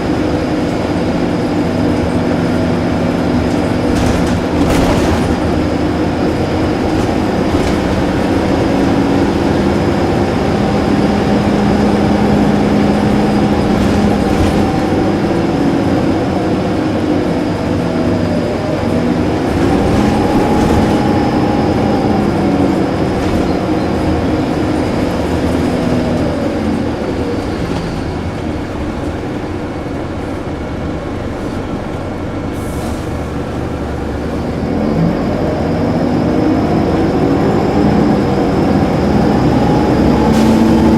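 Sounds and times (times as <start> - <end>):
diesel bus engine drone: 0.0 - 40.9.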